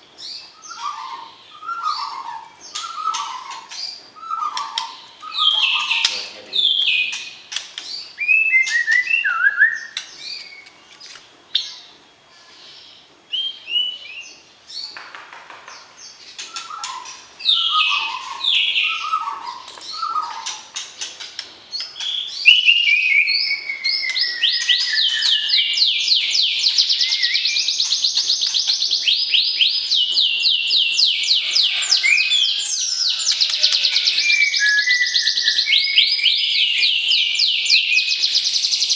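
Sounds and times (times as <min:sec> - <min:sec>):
songbird whistling song: 0:00.0 - 0:10.8, 0:13.3 - 0:15.0, 0:16.1 - 0:38.9.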